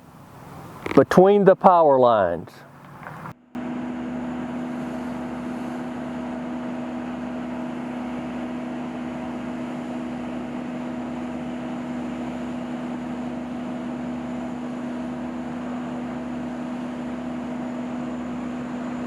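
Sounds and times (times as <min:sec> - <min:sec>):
crane engine droning: 0:00.0 - 0:19.0.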